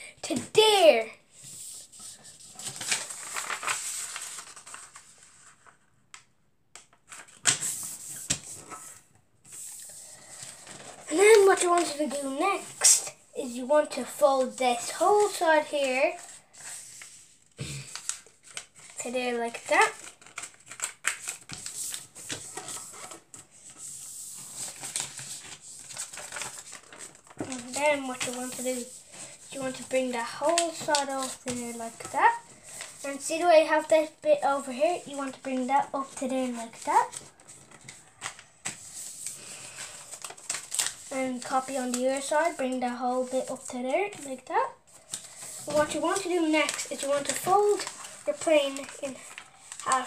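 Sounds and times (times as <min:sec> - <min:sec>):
paper rustling and crackling: 0:00.7 - 0:50.0.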